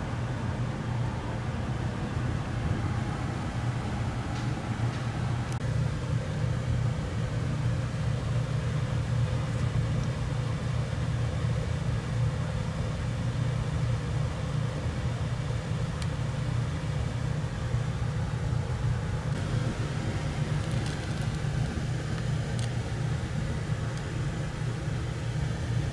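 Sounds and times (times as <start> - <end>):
air conditioner unit humming: 0.0 - 25.9.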